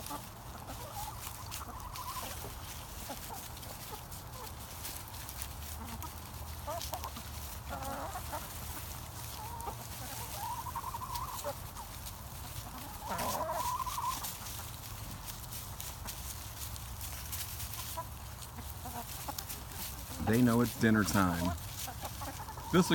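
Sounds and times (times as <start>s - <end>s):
chickens clucking and calling: 0.0s - 22.9s.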